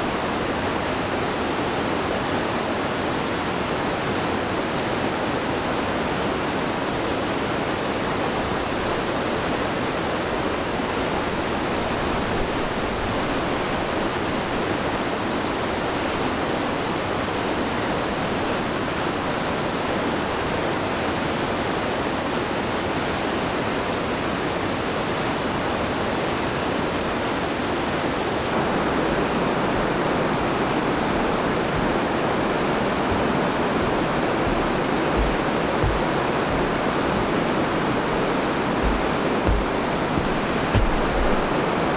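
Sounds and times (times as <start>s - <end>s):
river rapids rushing: 0.0s - 41.9s.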